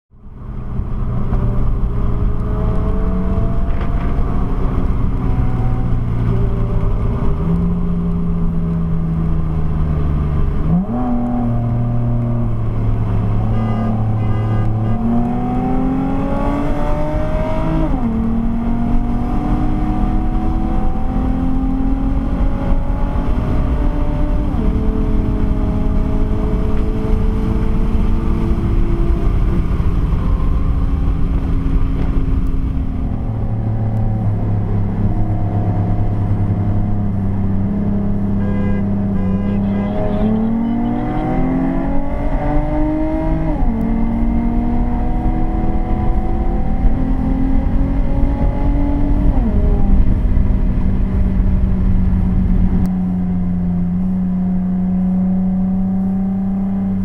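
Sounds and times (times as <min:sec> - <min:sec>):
car engine accelerating: 0:00.1 - 0:57.0
low road rumble: 0:00.1 - 0:57.0.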